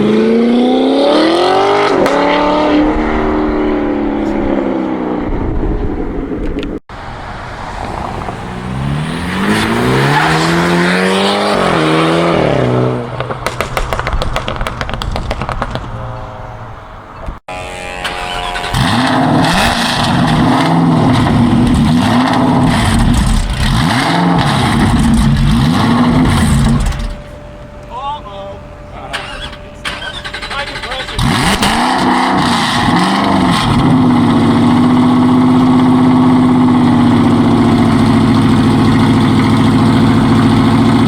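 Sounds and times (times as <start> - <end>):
engine revving: 0.0 - 16.2, 17.5 - 27.4, 28.8 - 41.0
car engines accelerating hard: 0.0 - 17.2, 18.4 - 27.3, 28.6 - 41.0
exhaust crackling: 0.0 - 41.0.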